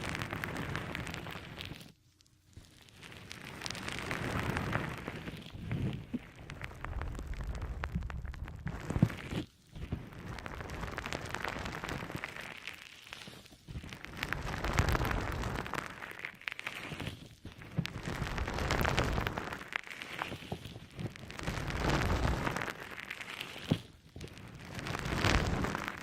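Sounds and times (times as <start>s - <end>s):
wet sponge squishing: 2.6s - 26.0s.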